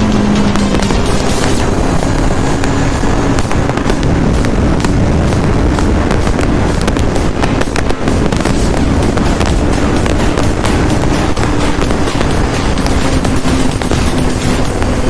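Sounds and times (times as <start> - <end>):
exhaust cracks and pops: 0.0 - 15.0
motorcycle engine revving high: 0.0 - 15.0.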